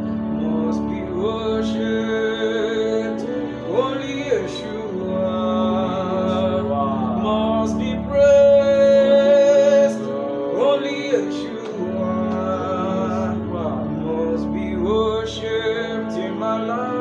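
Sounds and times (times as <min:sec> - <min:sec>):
gospel music held chord: 0:00.0 - 0:17.0
person singing long notes: 0:00.0 - 0:17.0.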